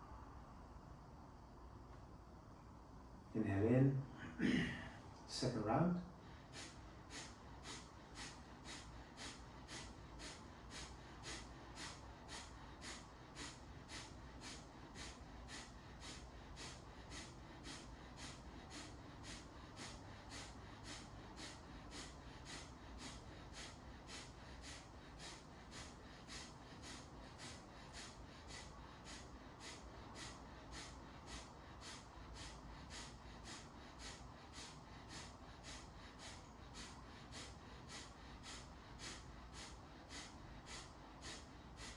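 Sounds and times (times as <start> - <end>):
forceful nasal exhalations: 4.3 - 5.0, 6.2 - 41.9.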